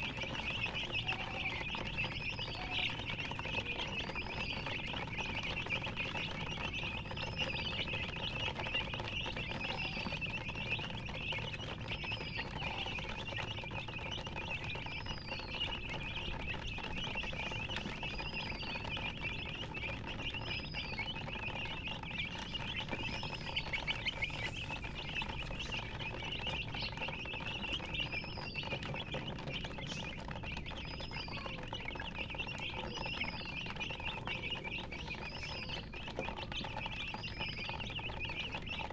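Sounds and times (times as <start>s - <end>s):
chicks peeping in chorus: 0.0s - 38.9s.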